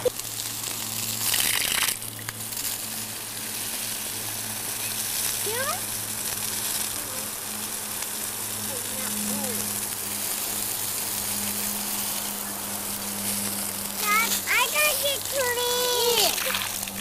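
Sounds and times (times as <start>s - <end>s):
hose spraying water: 0.0s - 17.0s.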